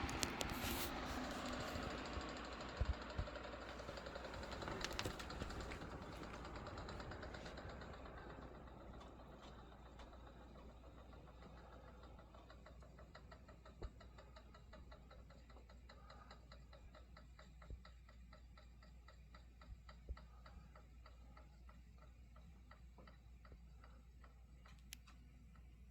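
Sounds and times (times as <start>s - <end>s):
fan ticking: 0.0s - 25.8s.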